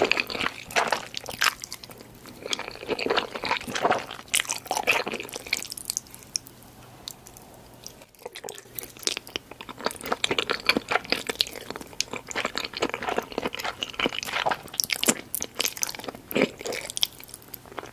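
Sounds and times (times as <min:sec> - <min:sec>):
person crunching and chewing food: 0:00.0 - 0:17.9.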